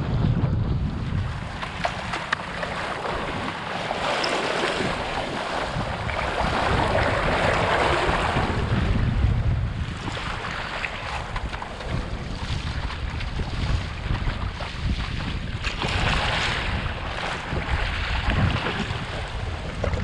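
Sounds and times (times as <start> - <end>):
sea water rushing and splashing: 0.0 - 20.0
wind buffeting microphone: 0.0 - 20.0.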